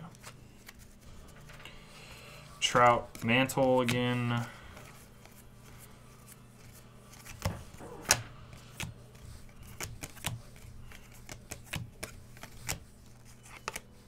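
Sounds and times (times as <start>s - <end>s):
cards flipping with clicks: 0.0s - 1.9s, 2.7s - 14.0s.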